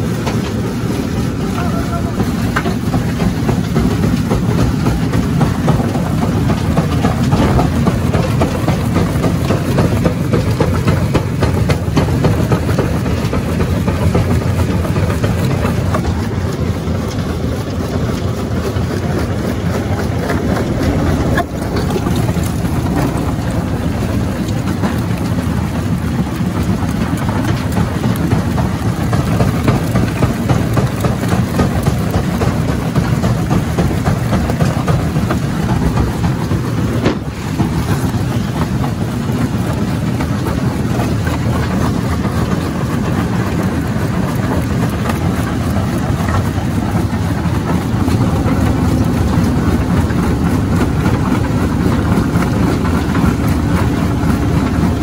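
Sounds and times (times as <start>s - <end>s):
rock crusher machine din: 0.0s - 55.0s.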